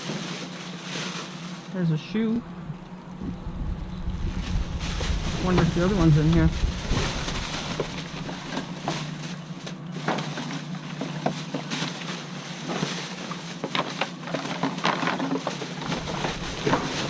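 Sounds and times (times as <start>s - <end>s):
hands rummaging through trash: 0.0s - 3.2s, 4.1s - 17.0s
steady low hum: 0.1s - 14.3s, 15.4s - 17.0s.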